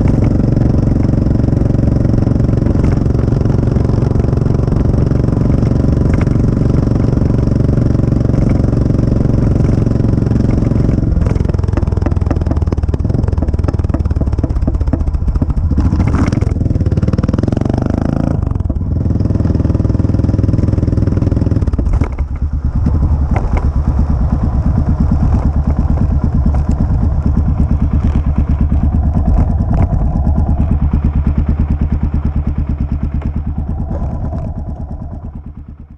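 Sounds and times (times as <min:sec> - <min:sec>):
motorcycle exhaust running: 0:00.0 - 0:35.9.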